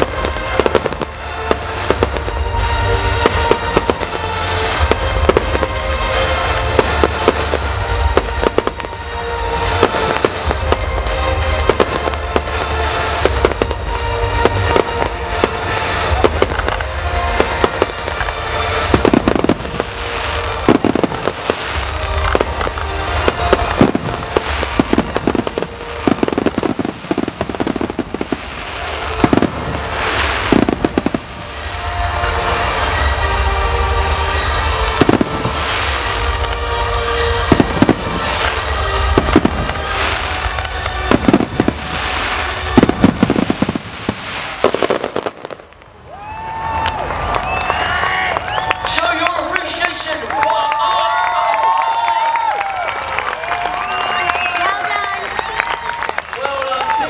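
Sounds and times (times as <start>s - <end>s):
fireworks bangs: 0.0s - 57.0s
music soundtrack: 0.0s - 57.0s.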